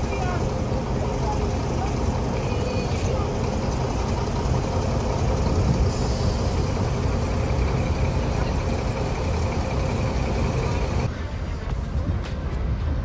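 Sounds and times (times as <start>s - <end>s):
constant background noise: 0.0s - 13.0s
low engine rumble: 0.0s - 13.0s.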